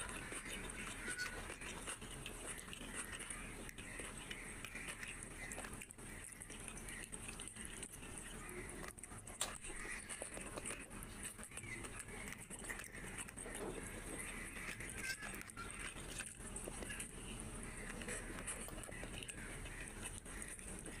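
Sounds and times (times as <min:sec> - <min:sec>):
fingers squelching food: 0:00.0 - 0:21.0
wet chewing and lip smacking: 0:00.0 - 0:21.0.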